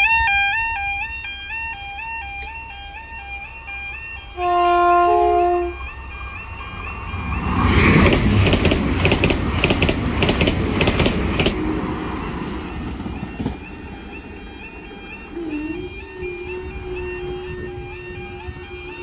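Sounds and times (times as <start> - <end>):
crossing warning alarm: 0.0 - 19.0
train wheels clicking: 0.2 - 19.0.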